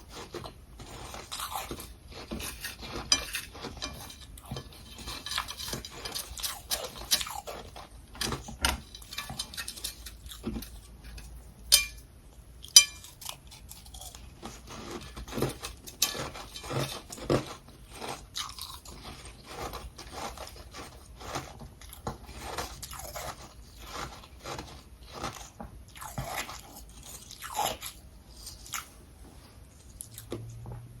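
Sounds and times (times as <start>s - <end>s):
ice crunching while chewed: 0.0s - 10.9s, 12.6s - 29.0s.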